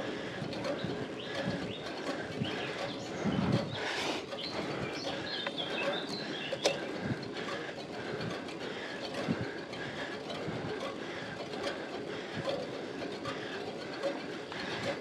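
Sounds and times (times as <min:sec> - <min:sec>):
birds chirping: 0:00.0 - 0:12.4
bicycle riding on wet road: 0:00.0 - 0:15.0.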